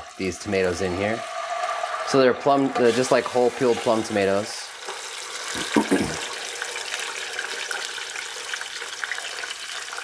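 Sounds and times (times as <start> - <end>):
tomato sizzling in oil: 0.0 - 10.0.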